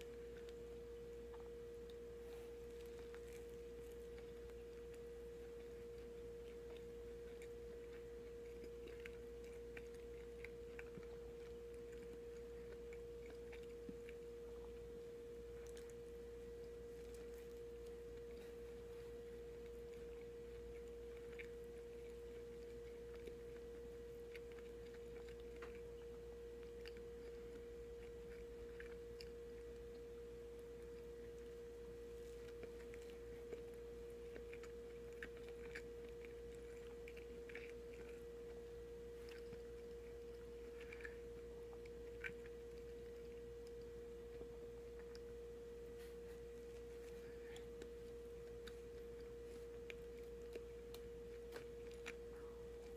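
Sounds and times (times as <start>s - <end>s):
chewing a sandwich: 0.0s - 52.9s
steady hum tone: 0.0s - 52.9s.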